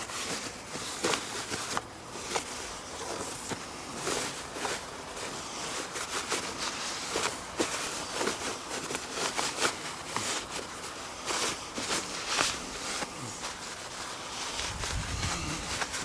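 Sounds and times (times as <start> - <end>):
cloth rag rubbing on metal: 0.0 - 16.0.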